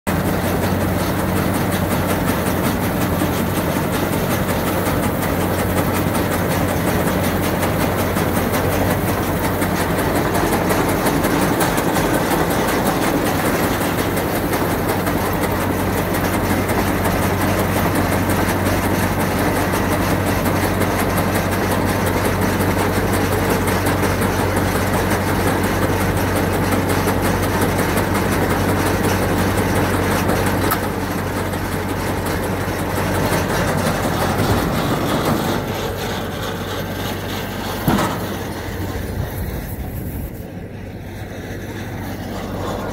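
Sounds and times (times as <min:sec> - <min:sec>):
tractor engine: 0:00.0 - 0:42.9
hay baler running: 0:00.1 - 0:42.9.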